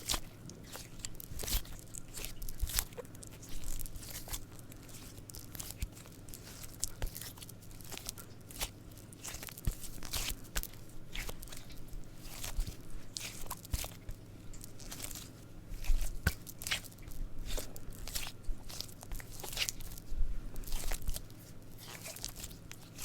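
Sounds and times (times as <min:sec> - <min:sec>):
squishy crunchy crackling clicks: 0:00.0 - 0:23.0.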